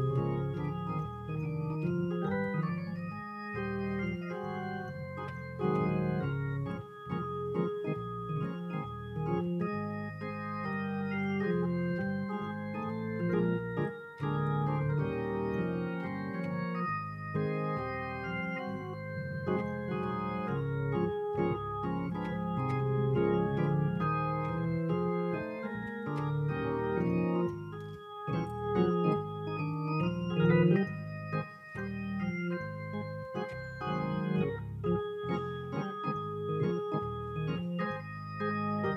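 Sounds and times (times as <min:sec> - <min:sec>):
organ playing held chords: 0:00.0 - 0:38.9.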